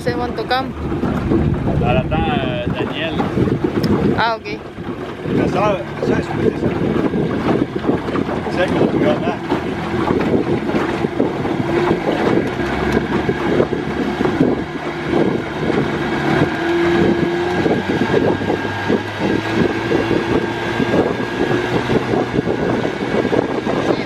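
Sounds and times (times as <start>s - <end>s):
motorboat engine droning: 0.0s - 24.0s
wind on microphone: 0.0s - 24.0s.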